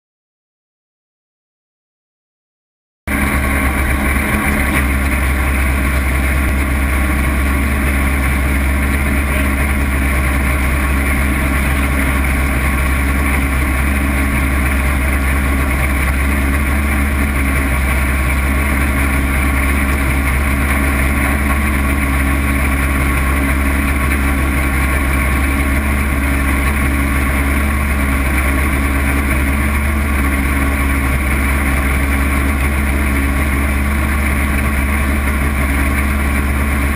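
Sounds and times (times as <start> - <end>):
car engine idling: 3.1 - 36.9.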